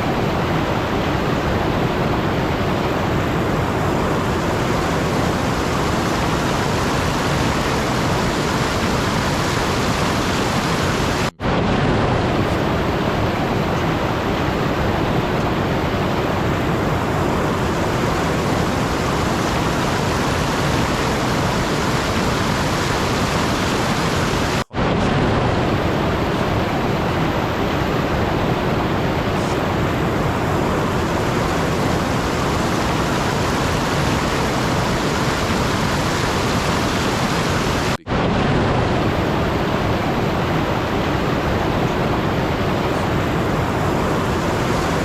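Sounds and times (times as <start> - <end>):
steady rushing noise: 0.0 - 45.0.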